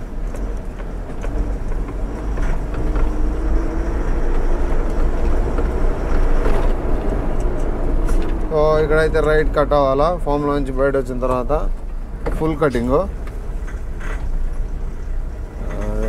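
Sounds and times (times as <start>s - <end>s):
diesel truck engine rumbling: 0.0s - 16.0s
truck knocks and rattles: 0.0s - 16.0s.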